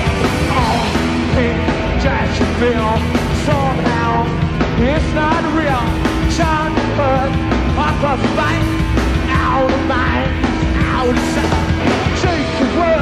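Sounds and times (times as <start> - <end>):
hard rock band playing: 0.0 - 13.0.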